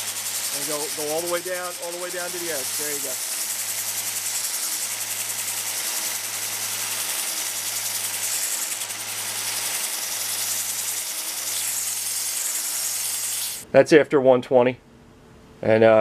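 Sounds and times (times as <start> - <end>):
metal grinding on sanding belt: 0.0 - 13.6.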